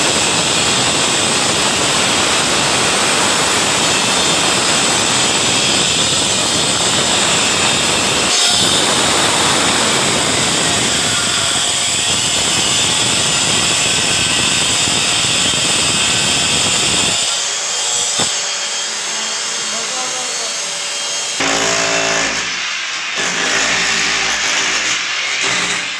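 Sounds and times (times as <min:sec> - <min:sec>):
wall chaser grinding masonry: 0:00.0 - 0:25.9.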